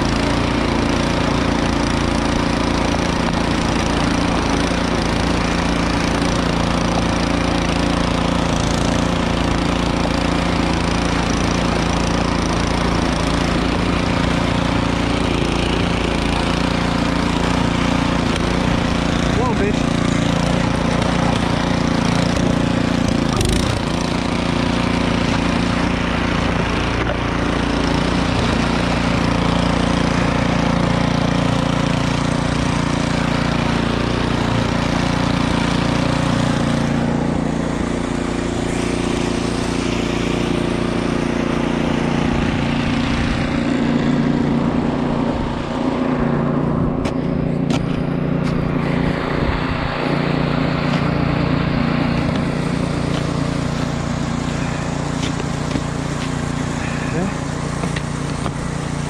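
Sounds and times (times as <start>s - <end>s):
snowblower engine running: 0.0s - 59.0s.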